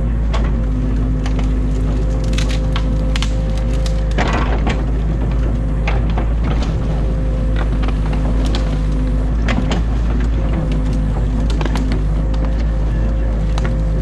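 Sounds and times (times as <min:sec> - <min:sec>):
diesel engine running: 0:00.0 - 0:14.0
branches cracking and snapping: 0:00.1 - 0:14.0.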